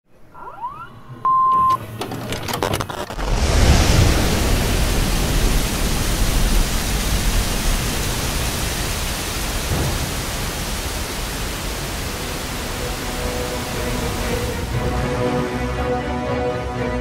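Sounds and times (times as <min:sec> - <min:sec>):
heavy rain falling: 0:02.0 - 0:16.7.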